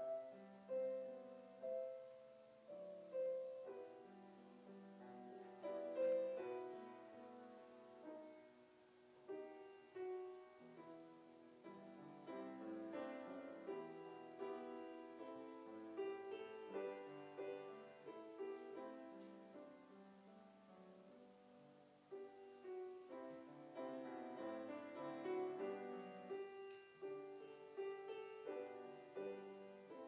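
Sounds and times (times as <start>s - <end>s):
slow grand piano: 0.0s - 30.0s.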